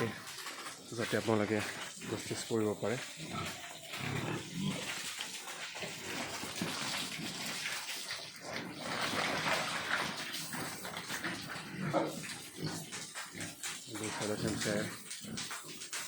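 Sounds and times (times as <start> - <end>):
water splashing on concrete floor: 0.0 - 16.0.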